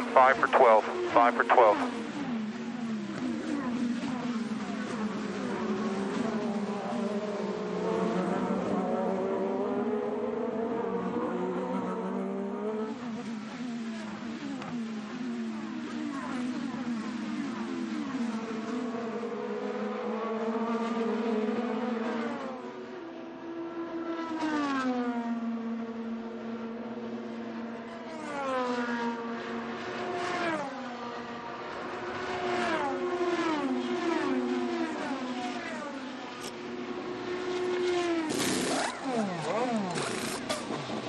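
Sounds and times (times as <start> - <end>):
racing car engine: 0.0 - 23.0, 24.9 - 41.0.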